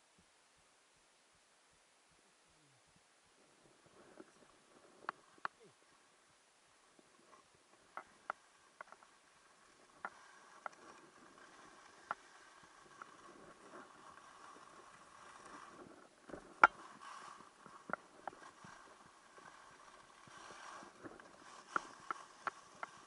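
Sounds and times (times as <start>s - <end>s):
skis sliding over snow: 3.4s - 23.0s.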